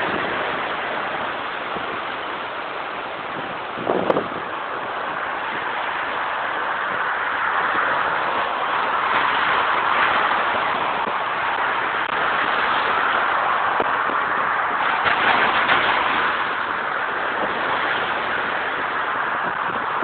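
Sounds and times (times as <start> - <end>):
rough sea: 0.0 - 20.0
strong wind: 0.0 - 20.0.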